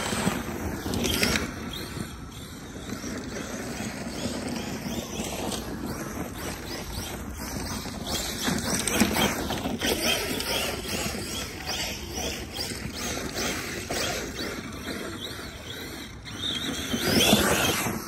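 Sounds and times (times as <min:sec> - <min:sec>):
electric motor whining: 0:00.0 - 0:18.0
tires spinning spraying dirt: 0:00.0 - 0:18.0.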